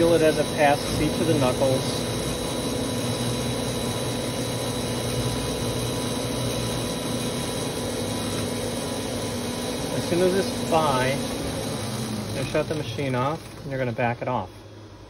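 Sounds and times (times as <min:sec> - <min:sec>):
metal lathe cutting: 0:00.0 - 0:15.0.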